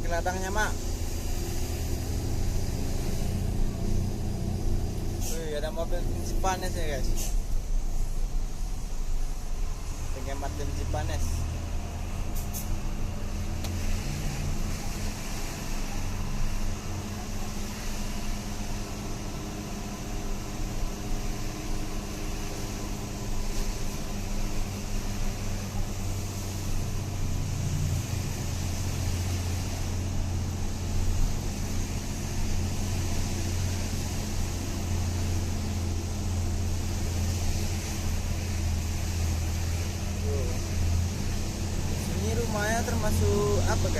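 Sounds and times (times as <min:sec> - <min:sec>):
truck engine droning: 0:00.0 - 0:43.9.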